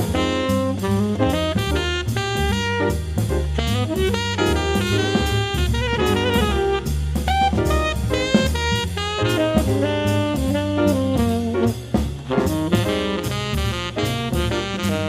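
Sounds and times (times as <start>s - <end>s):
jazz instrumental music: 0.0s - 15.0s.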